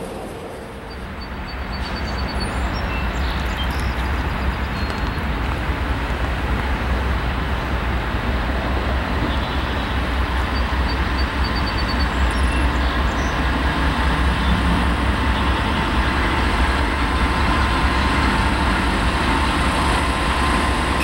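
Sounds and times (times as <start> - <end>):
diesel locomotive rumble: 0.0 - 21.0
outdoor noise: 0.0 - 21.0.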